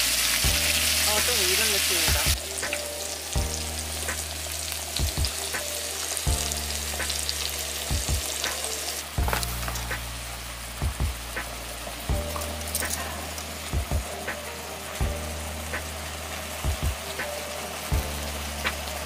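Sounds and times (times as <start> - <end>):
meat sizzling on griddle pan: 0.0 - 19.0.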